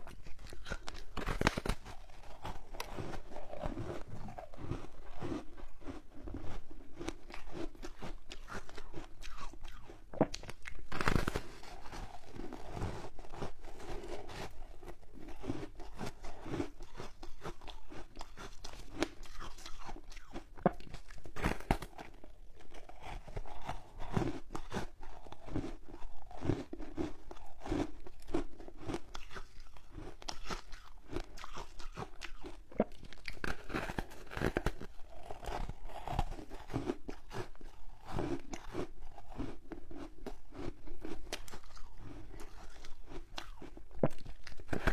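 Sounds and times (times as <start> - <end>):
chewing crunches: 0.0 - 44.9
crunching bite: 0.0 - 44.9.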